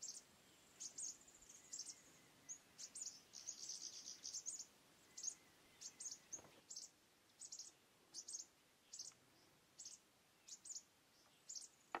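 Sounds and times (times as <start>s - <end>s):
faint high-pitched chirping: 0.0s - 12.0s.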